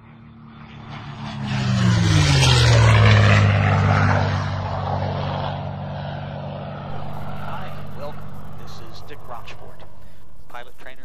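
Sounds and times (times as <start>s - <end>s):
propeller airplane passing: 0.0s - 11.0s.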